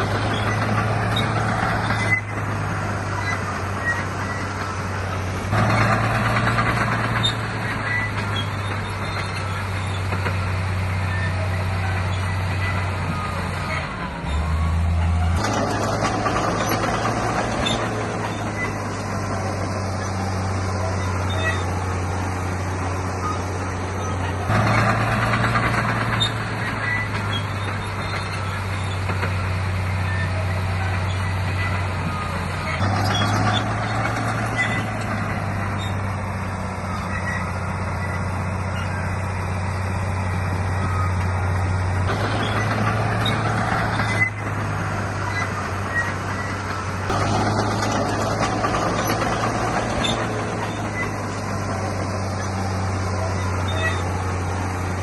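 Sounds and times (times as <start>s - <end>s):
heavy diesel machinery engine: 0.0s - 55.0s.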